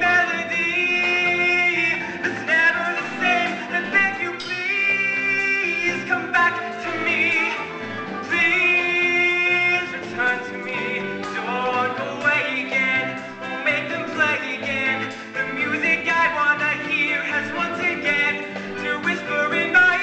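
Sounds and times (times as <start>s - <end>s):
instrumental accompaniment: 0.0s - 20.0s
man singing with vibrato: 0.0s - 20.0s.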